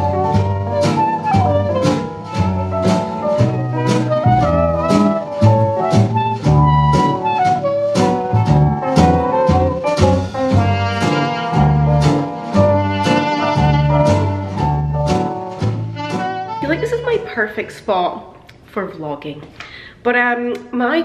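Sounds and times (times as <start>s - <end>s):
jazz background music: 0.0s - 17.8s.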